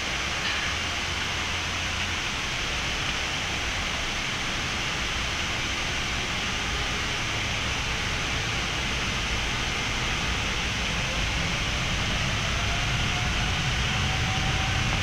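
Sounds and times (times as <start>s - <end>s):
cockpit ventilation hiss: 0.0s - 15.0s.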